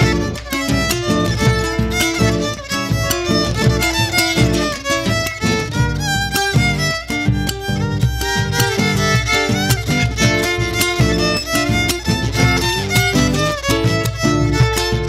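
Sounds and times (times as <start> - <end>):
bass drum struck with stick: 0.0 - 15.0
strummed acoustic guitar: 0.0 - 15.0
violin melody: 0.0 - 15.0.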